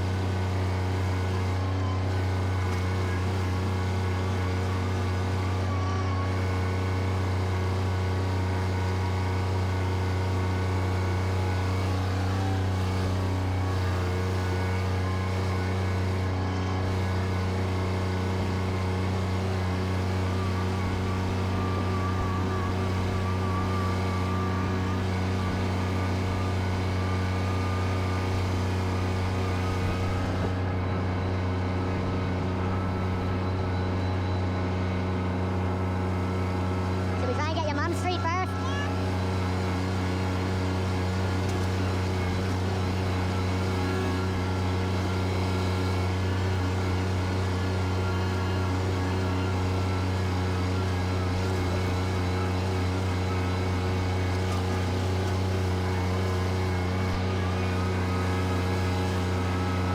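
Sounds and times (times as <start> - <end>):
faint wavering whine: 0.0 - 59.9
tractor engine running: 0.0 - 59.9.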